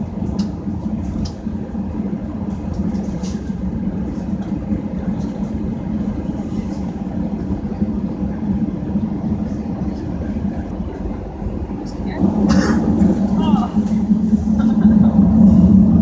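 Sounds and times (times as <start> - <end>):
airliner engines droning in cabin: 0.0 - 16.0.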